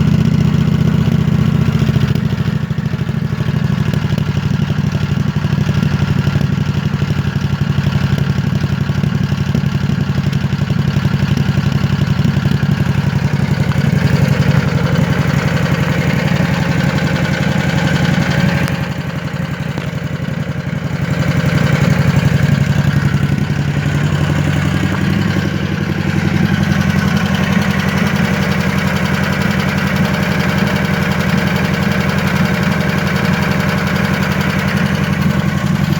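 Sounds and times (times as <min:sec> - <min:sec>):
mower engine idling roughly: 0:00.0 - 0:35.9.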